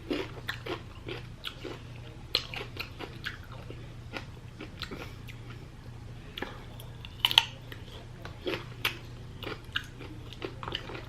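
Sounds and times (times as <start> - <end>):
low hum: 0.0 - 11.0
person chewing food: 0.0 - 11.0.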